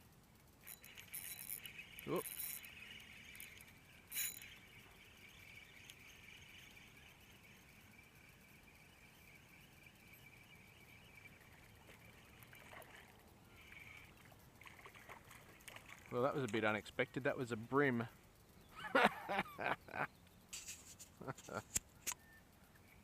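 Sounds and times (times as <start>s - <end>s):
steady high-pitched hum: 0.0s - 23.0s.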